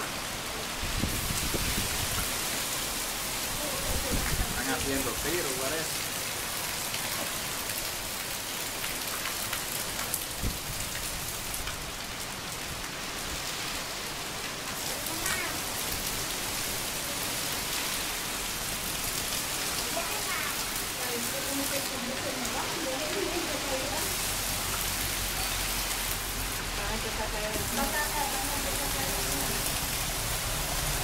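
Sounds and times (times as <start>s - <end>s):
heavy rain on pavement: 0.0s - 31.0s.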